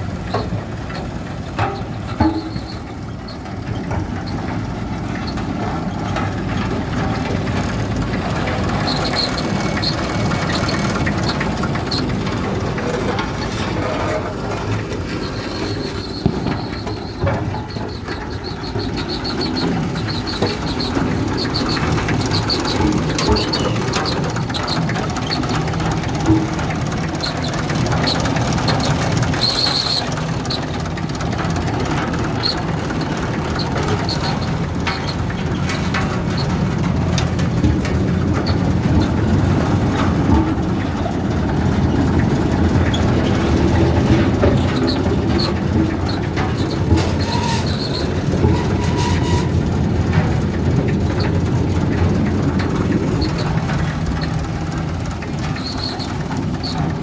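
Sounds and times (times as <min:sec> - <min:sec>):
road roller engine running: 0:00.0 - 0:57.0
short high squeaks and clicks: 0:01.6 - 0:06.2, 0:07.0 - 0:36.7, 0:42.7 - 0:50.4, 0:53.1 - 0:57.0.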